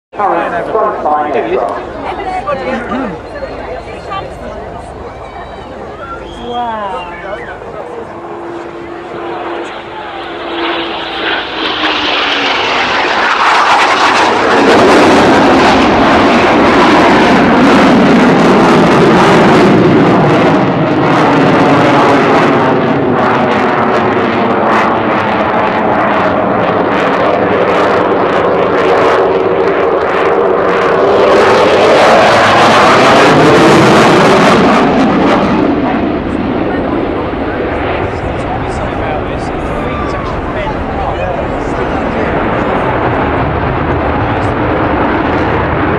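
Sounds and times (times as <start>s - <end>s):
afterburners roaring: 0.2s - 45.9s
jet fighter flying low: 0.2s - 45.9s
falling jet whine: 0.3s - 45.9s.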